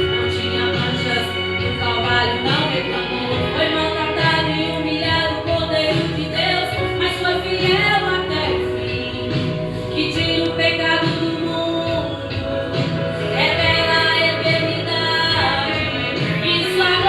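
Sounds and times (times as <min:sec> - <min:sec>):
gospel song with band: 0:00.0 - 0:17.0.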